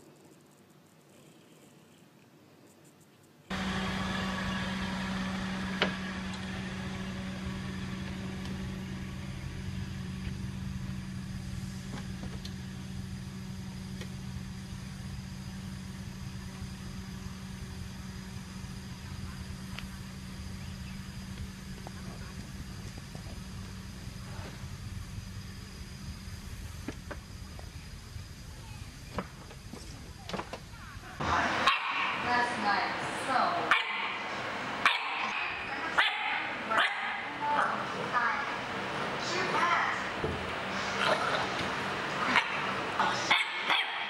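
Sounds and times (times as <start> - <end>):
car engine idling: 3.5 - 43.8.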